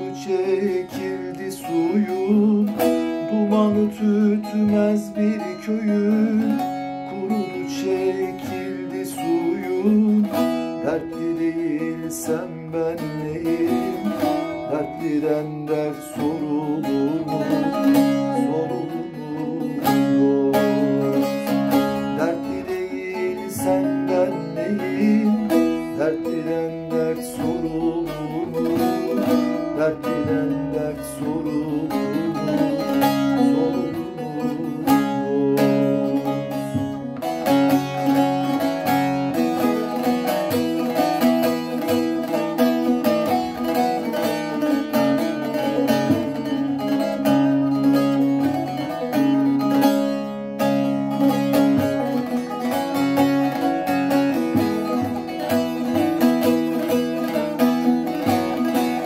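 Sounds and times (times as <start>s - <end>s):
plucked lute melody: 0.0s - 59.0s.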